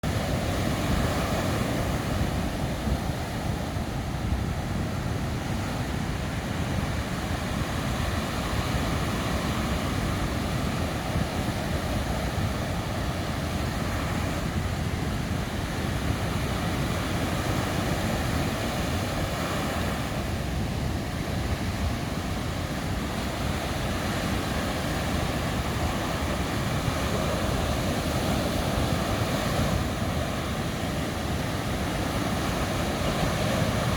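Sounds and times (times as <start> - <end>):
sea waves washing on beach: 0.0 - 33.9.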